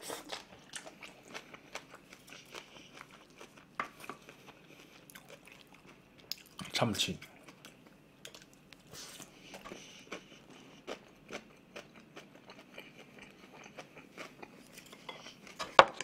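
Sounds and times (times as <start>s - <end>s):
close-miked chewing: 0.0s - 16.0s.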